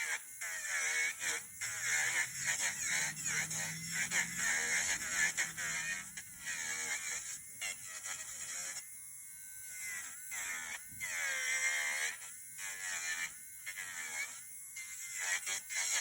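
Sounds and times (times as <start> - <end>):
electric nail drill whining: 0.0 - 16.0.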